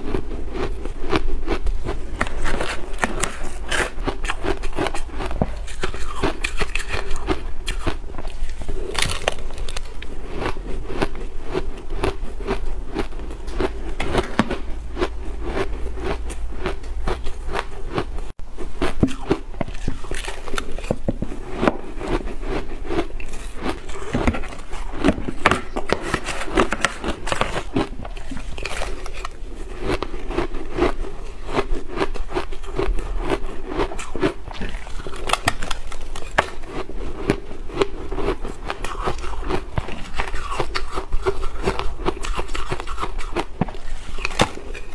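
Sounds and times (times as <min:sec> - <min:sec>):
crunching and chewing ice: 0:00.0 - 0:44.9.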